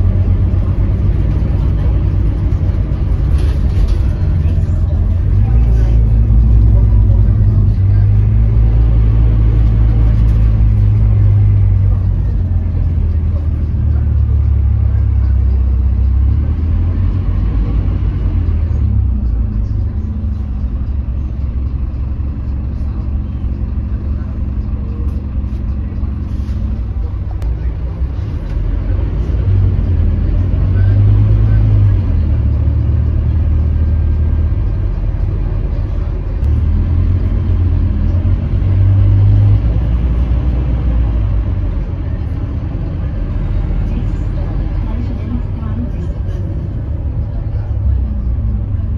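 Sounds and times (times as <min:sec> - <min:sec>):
diesel bus engine rumble: 0:00.0 - 0:48.9
road noise: 0:00.0 - 0:48.9.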